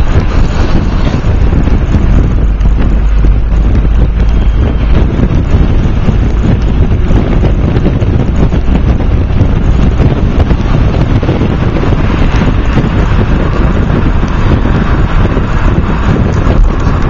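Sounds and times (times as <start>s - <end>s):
car road rumble: 0.0s - 17.0s
wind buffeting microphone: 0.0s - 17.0s.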